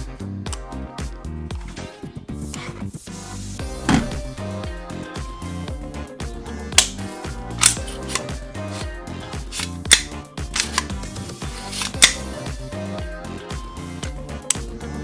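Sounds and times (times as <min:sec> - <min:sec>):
background music with steady beat: 0:00.0 - 0:15.0.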